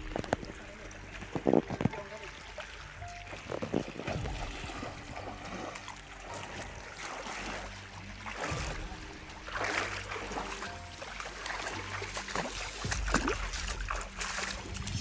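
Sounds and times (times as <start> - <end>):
legs wading through water: 0.0 - 15.0.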